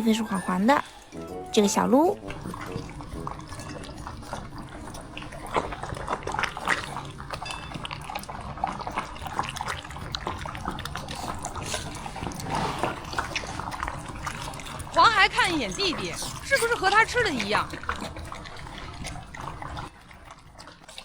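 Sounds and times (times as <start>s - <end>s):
dogs lapping and chewing: 0.0s - 21.0s.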